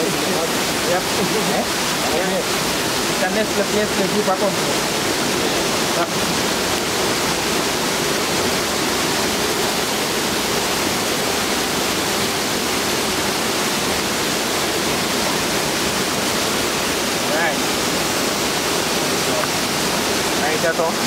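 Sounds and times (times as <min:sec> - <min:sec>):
river water pouring over falls: 0:00.0 - 0:21.0.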